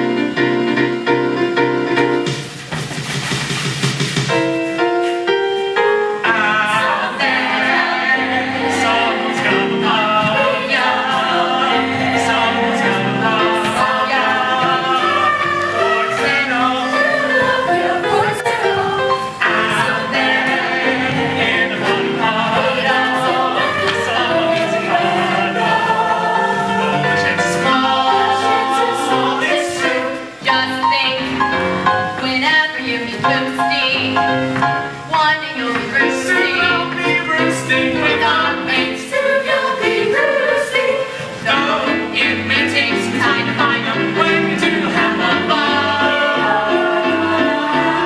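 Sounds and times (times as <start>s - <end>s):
musical accompaniment: 0.0s - 48.0s
chorus singing show tune: 6.1s - 48.0s.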